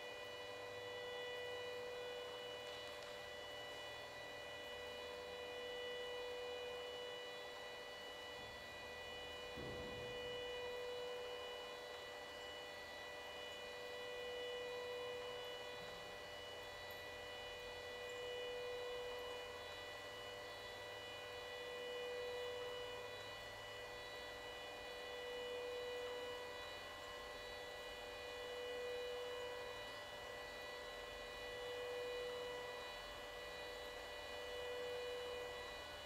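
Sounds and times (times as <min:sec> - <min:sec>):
fluorescent lamp electrical hum: 0:00.0 - 0:36.0.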